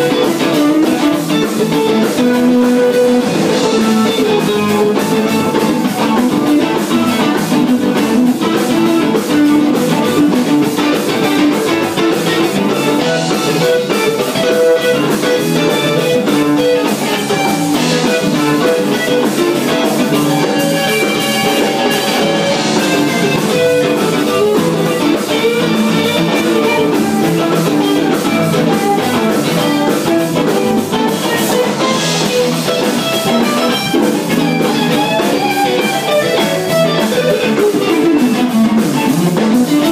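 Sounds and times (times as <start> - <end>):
drum kit: 0.0 - 39.9
guitar playing: 0.0 - 39.9.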